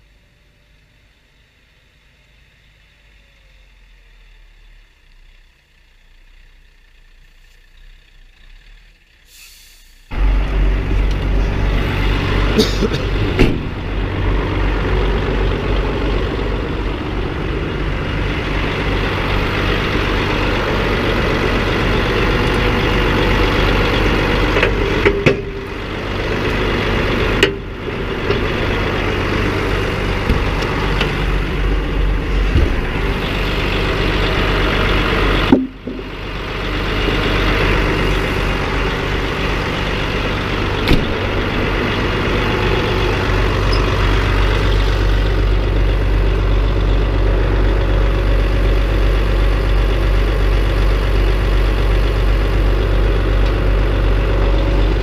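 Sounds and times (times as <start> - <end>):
lorry diesel engine idling: 0.0 - 55.0.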